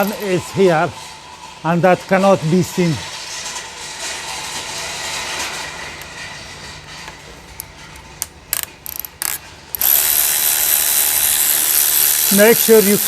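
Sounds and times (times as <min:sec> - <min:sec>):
tools scraping and rustling: 0:00.0 - 0:11.2.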